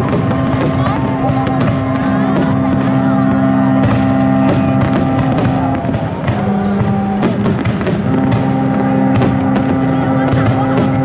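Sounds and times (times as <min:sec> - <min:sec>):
music with held notes: 0:00.0 - 0:11.0.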